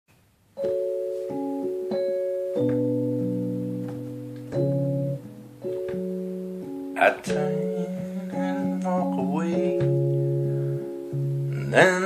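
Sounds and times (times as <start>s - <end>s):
electric piano chords: 0.5s - 12.0s.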